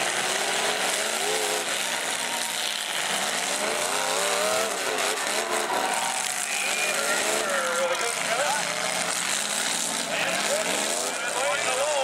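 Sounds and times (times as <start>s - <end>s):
arena noise: 0.0s - 12.0s
car engines revving: 0.0s - 12.0s.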